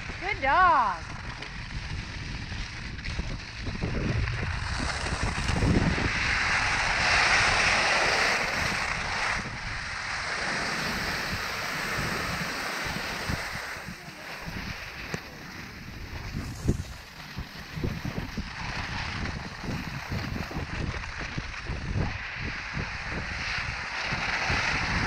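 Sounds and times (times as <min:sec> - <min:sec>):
skis gliding over packed snow: 0:00.0 - 0:25.0
wind on microphone: 0:00.0 - 0:25.0.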